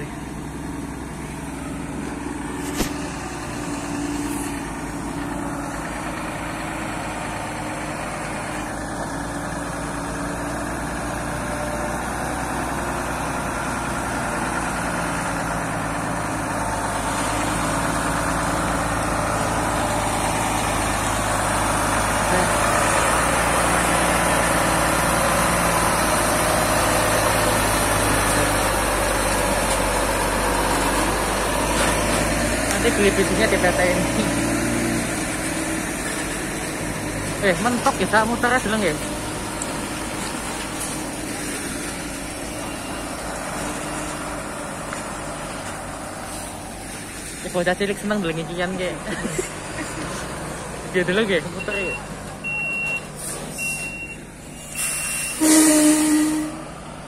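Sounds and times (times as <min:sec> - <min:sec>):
truck diesel engine rumbling: 0:00.0 - 0:57.0.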